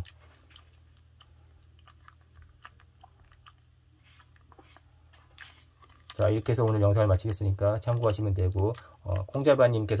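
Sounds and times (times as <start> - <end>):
chewing and licking: 0.0 - 10.0
low steady hum: 0.0 - 10.0.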